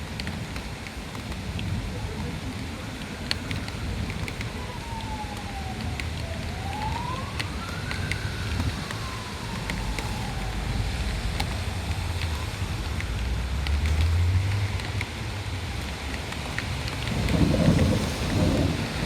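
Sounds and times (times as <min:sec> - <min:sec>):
heavy rainstorm: 0:00.0 - 0:19.0
raindrops ticking close by: 0:00.0 - 0:19.0
distant siren wailing: 0:03.5 - 0:19.0.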